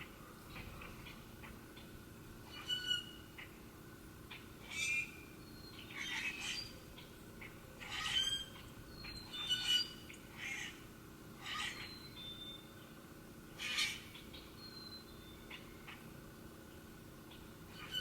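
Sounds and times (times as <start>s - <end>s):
birds calling harshly: 0.5s - 3.6s, 4.3s - 12.6s, 13.5s - 16.1s, 17.3s - 18.0s.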